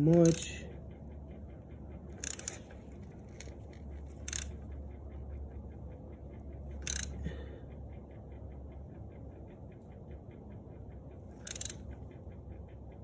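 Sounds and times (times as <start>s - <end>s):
faint fast ticking: 0.0s - 13.0s
steady low hum: 0.0s - 13.0s.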